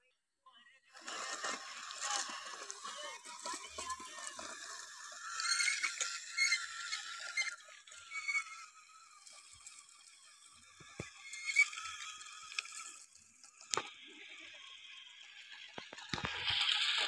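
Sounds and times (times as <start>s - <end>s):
toy motor and gears whirring: 1.0s - 17.0s.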